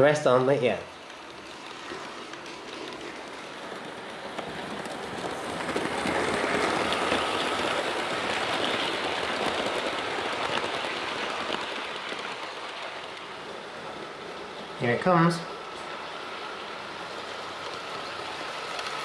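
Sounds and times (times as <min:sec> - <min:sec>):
model train motor whirring: 0:00.0 - 0:19.0
wheels rattling on rail: 0:00.0 - 0:19.0.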